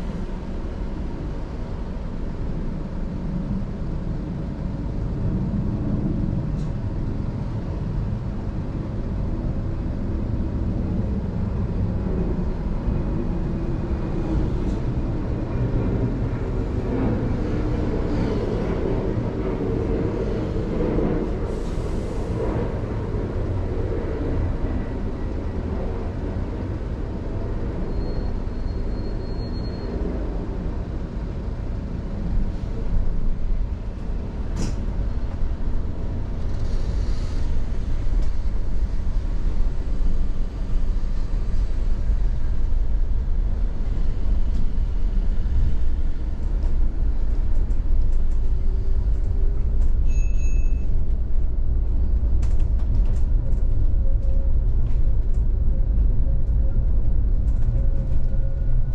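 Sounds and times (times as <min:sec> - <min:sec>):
street traffic rumble: 0:00.0 - 0:58.9.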